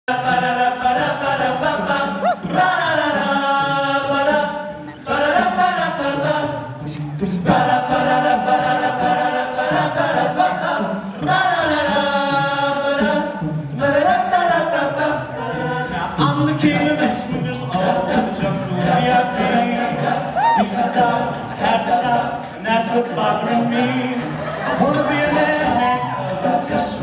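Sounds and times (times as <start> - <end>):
male a cappella group singing: 0.1 - 27.0.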